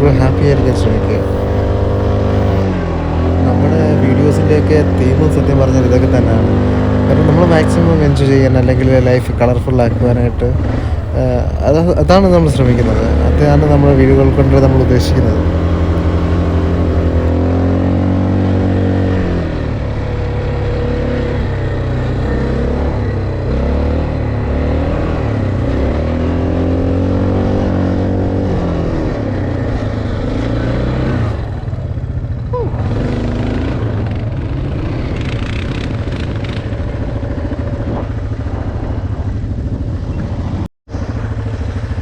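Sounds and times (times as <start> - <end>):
quad bike engine revving: 0.0 - 39.3.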